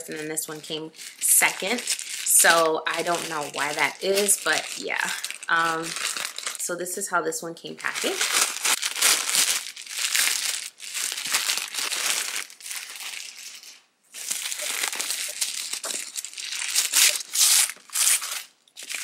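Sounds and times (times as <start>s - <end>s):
plastic and paper crinkling: 0.0s - 6.7s, 7.7s - 19.0s.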